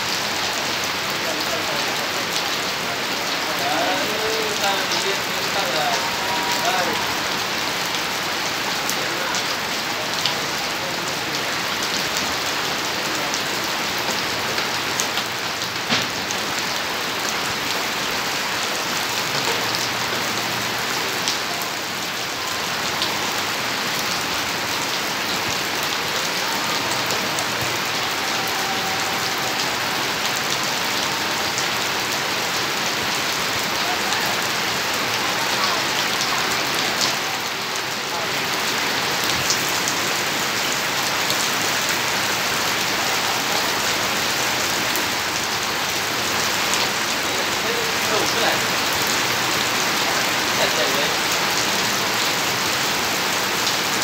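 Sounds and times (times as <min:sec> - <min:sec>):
steady hiss like rain: 0:00.0 - 0:54.0.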